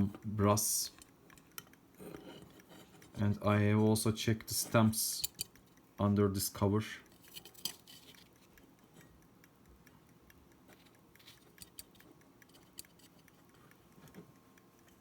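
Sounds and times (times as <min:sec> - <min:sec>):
pocket watch ticking: 0:00.0 - 0:15.0.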